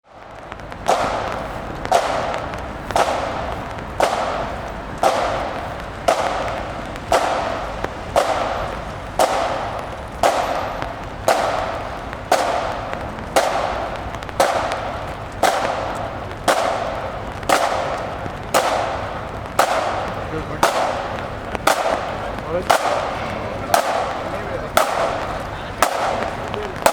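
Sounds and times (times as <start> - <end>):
marching band drum beating: 0.1 - 26.9.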